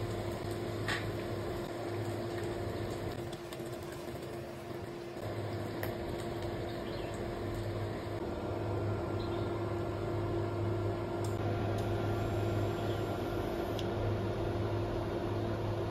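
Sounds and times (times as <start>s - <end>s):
appliance fan motor humming: 0.0s - 15.9s.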